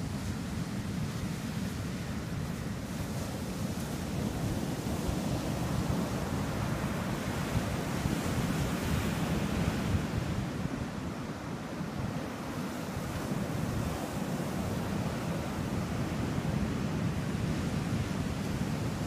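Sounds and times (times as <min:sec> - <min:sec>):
ocean surf breaking on beach: 0:00.0 - 0:19.0
wind noise on microphone: 0:00.0 - 0:19.0.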